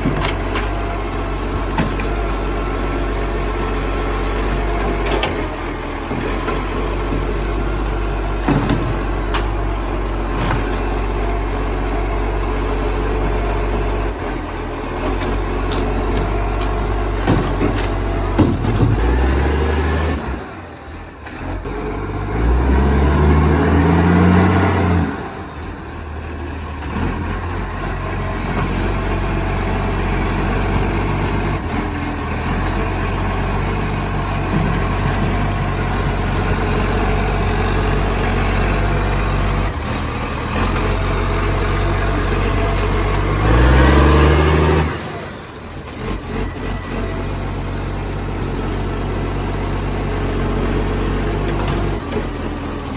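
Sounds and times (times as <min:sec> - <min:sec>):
loud diesel engine with exhaust leak: 0:00.0 - 0:52.9.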